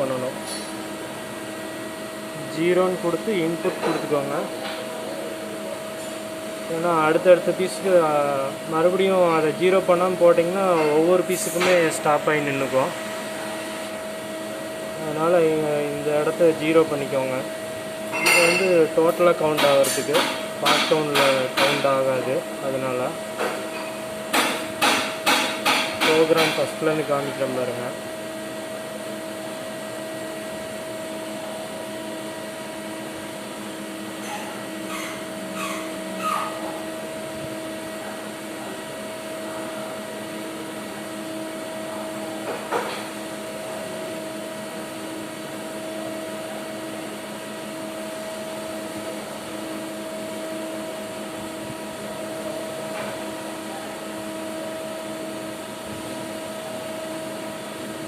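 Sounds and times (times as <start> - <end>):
lathe whirring hum: 0.0 - 58.0.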